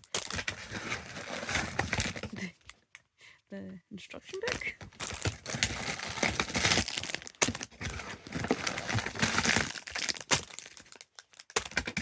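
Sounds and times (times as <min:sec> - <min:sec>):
packaging crinkling and rustling: 0:00.0 - 0:02.9, 0:04.4 - 0:12.0.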